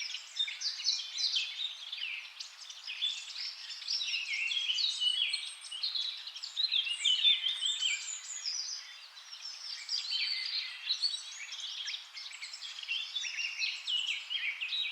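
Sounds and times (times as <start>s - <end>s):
songbirds singing: 0.0s - 14.9s.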